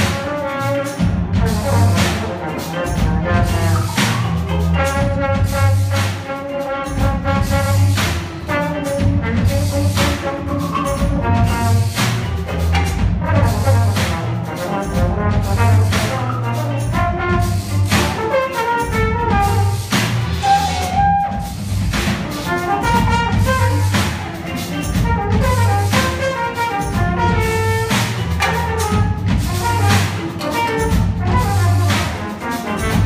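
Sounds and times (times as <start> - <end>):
deep repeating bass line: 0.0 - 6.2, 6.8 - 18.2, 18.8 - 33.0
brass playing melody: 0.0 - 33.0
drum kit steady beat: 0.0 - 33.0.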